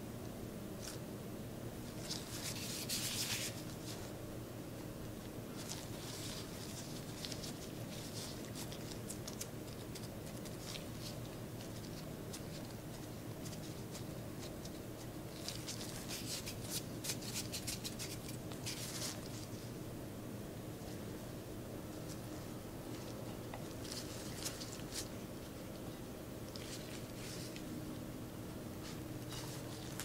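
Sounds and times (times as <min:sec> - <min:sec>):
soft crackles of dough: 0:00.2 - 0:30.0
disposable gloves rustling: 0:01.8 - 0:04.2, 0:05.0 - 0:19.9, 0:20.7 - 0:30.0.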